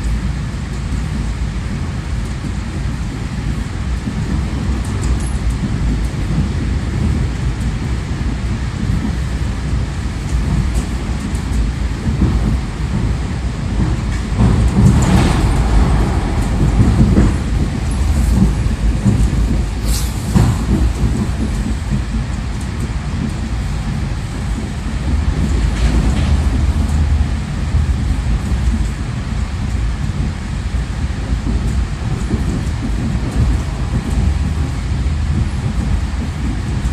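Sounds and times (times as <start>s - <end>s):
train clatters and squeals: 0.0s - 36.9s
train wheels rumbling on rail: 0.0s - 36.9s.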